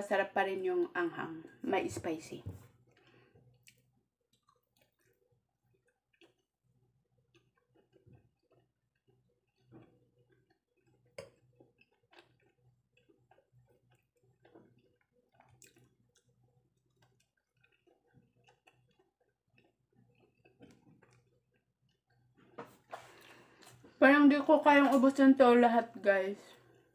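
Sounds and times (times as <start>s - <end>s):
person chewing: 2.7s - 24.0s, 26.5s - 26.9s.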